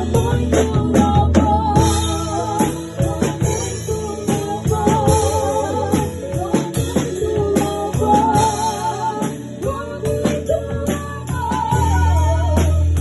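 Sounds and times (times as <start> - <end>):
drum and tambourine rhythm: 0.0 - 13.0
electronic keyboard gospel music: 0.0 - 13.0.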